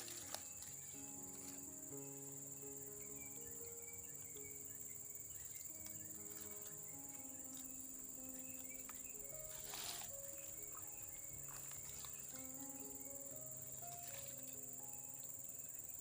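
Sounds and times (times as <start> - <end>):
crickets chirring: 0.0 - 16.0
soft background music: 0.0 - 16.0.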